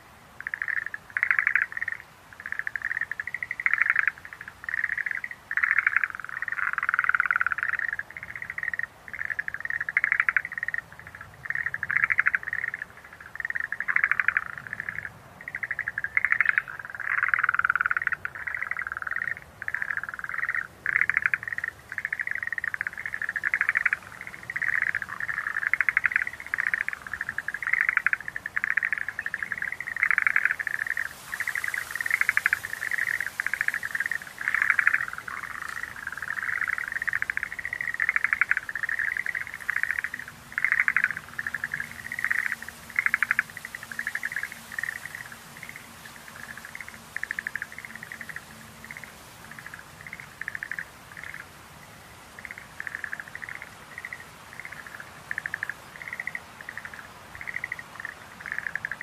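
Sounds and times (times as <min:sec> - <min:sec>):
tree frogs calling: 0:00.0 - 0:59.0.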